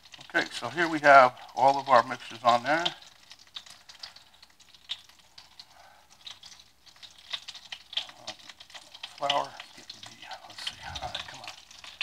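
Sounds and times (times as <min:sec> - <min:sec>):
chicken frying with crackles: 0:00.0 - 0:12.0.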